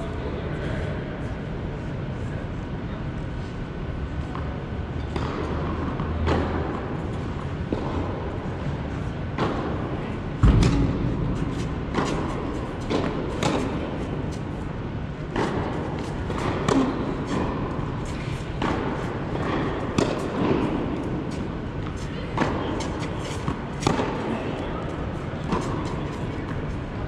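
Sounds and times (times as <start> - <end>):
tennis balls bouncing on hard court: 4.3 - 26.7
tennis balls hit by rackets: 4.3 - 26.9.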